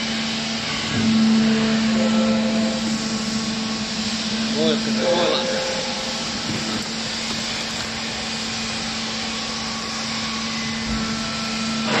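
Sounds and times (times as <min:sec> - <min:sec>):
motor and pump humming: 0:00.0 - 0:12.0.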